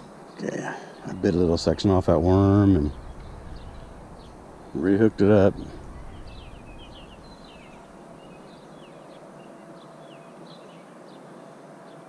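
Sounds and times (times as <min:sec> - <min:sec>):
birds chirping: 0:00.0 - 0:11.3
steady outdoor hiss: 0:00.0 - 0:12.0.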